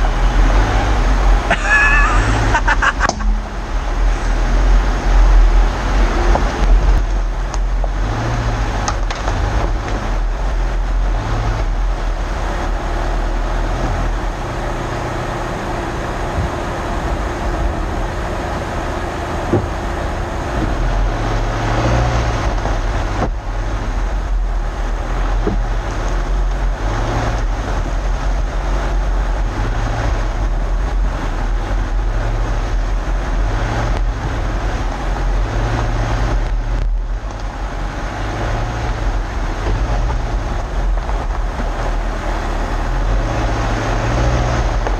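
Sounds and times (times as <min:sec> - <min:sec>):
car engine running: 0:00.0 - 0:44.9
tyres rumbling on dirt: 0:00.0 - 0:44.9.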